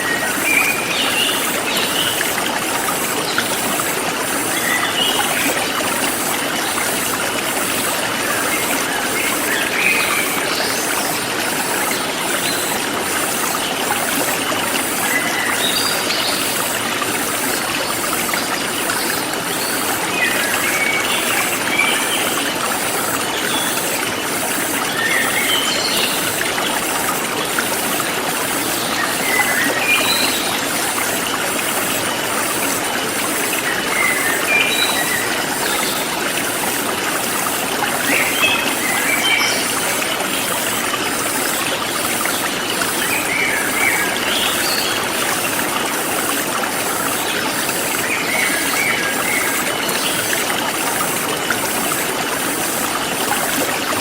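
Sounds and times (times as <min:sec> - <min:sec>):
forest stream flowing: 0:00.0 - 0:54.0.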